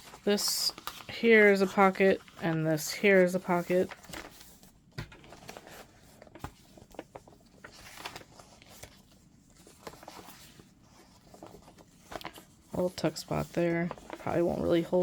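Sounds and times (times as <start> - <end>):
paper pages rustling: 0.0 - 15.0.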